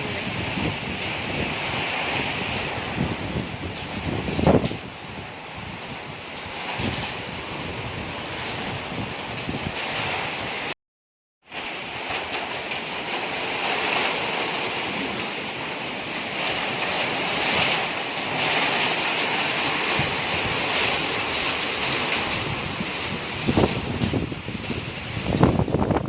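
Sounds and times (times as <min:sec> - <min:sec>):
rain: 0:00.0 - 0:10.8, 0:11.4 - 0:26.0
strong storm wind: 0:00.0 - 0:10.8, 0:11.4 - 0:26.0.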